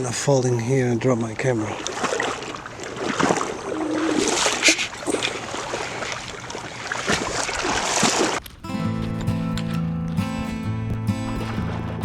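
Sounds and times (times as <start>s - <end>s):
water sloshing and splashing: 0.7s - 9.6s, 10.5s - 12.0s.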